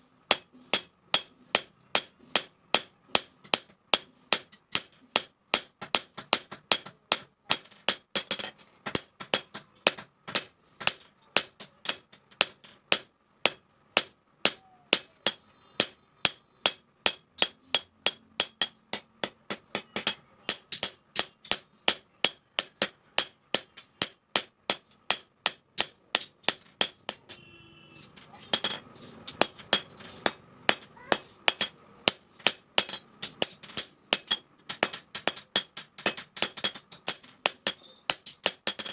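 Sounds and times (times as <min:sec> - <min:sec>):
hammer striking steel on anvil: 0:00.3 - 0:38.9.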